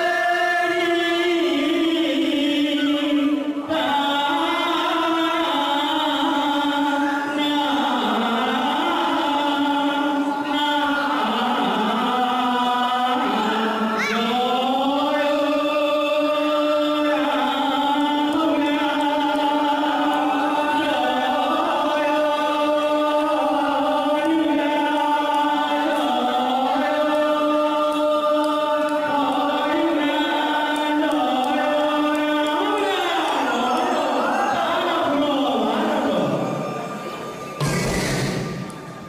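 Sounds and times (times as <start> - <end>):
men chanting in unison: 0.0 - 38.7.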